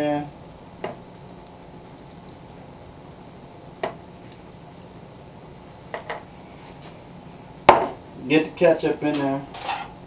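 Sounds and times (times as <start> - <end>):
low steady hiss: 0.0 - 10.0.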